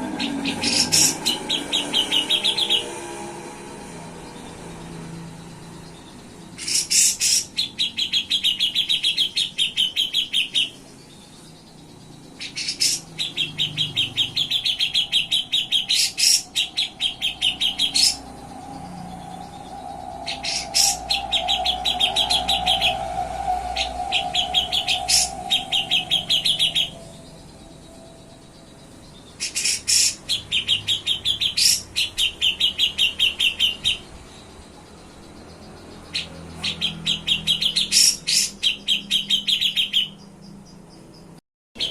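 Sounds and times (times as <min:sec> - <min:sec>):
bird singing trills: 0:00.0 - 0:41.9.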